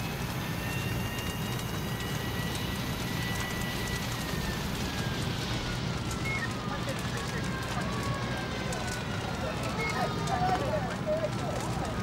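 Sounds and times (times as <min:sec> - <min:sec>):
helicopter rotor drone: 0:00.0 - 0:12.0
high turbine whine: 0:00.0 - 0:12.0.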